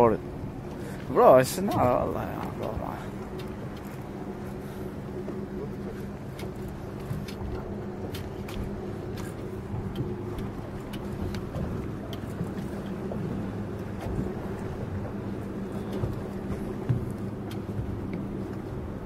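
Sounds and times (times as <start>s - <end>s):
outboard motor idling: 0.0s - 19.0s.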